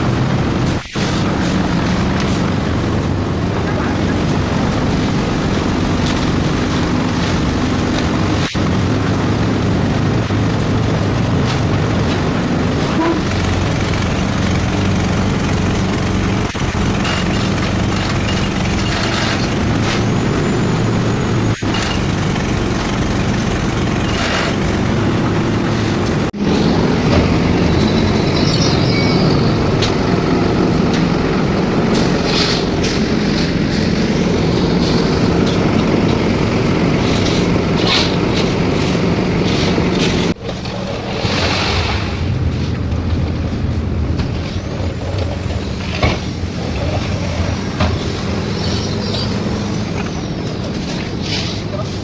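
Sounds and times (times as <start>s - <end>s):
machinery engine humming: 0.0s - 52.0s
noisy clatter: 0.0s - 52.0s.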